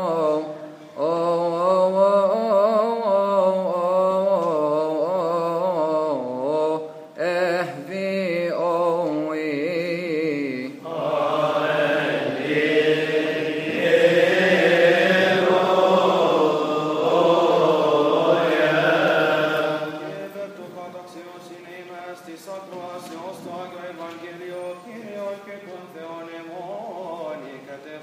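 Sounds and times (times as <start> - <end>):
man chanting a psalm: 0.0 - 28.0.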